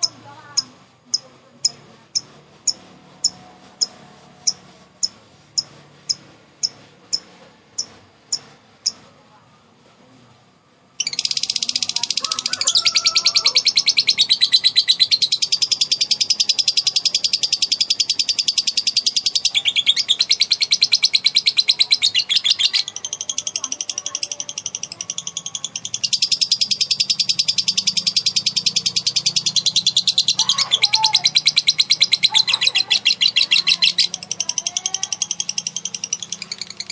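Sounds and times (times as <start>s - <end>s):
lovebird chattering trill: 0.0s - 9.0s, 11.0s - 36.9s
lovebird ticking chirps: 0.0s - 9.0s, 11.0s - 36.9s.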